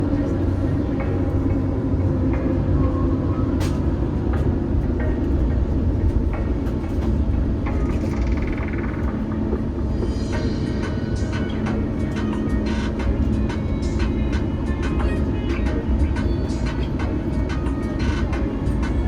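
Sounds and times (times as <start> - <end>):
airplane cabin low rumble: 0.0 - 19.0.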